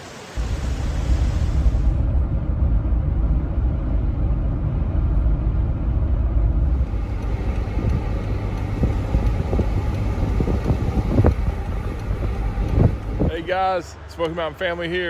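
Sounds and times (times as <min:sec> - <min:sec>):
car road noise rumble: 0:00.1 - 0:15.0.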